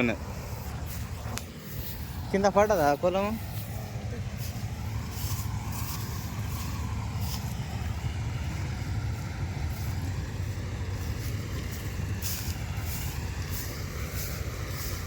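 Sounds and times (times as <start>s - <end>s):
combine harvester engine rumble: 0.0s - 15.0s
high hissing streaks: 0.0s - 15.0s.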